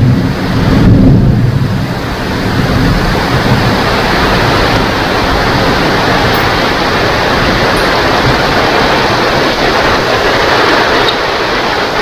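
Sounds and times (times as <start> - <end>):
steady rain: 0.0 - 12.0
thunder rumble: 0.0 - 12.0.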